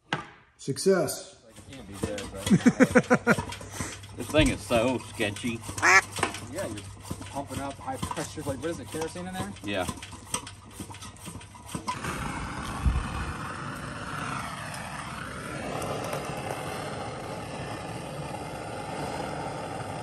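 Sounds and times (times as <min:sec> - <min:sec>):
burner hissing: 0:01.5 - 0:09.0, 0:10.1 - 0:20.0.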